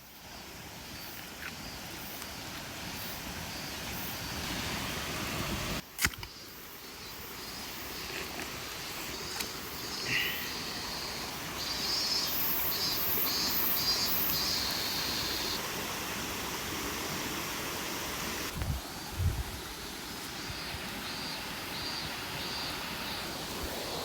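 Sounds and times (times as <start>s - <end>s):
stream water flowing: 0.0s - 5.8s, 6.7s - 24.0s.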